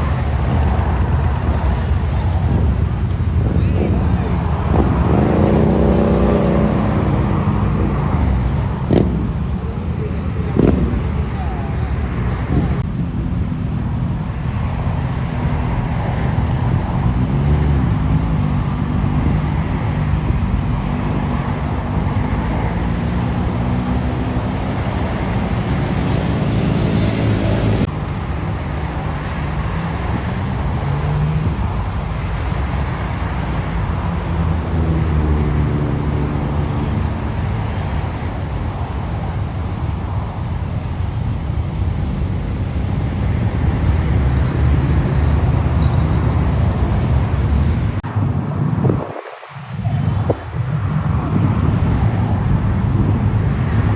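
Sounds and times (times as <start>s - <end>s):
motorcycles passing by: 0.0s - 53.9s
road noise: 0.0s - 53.9s.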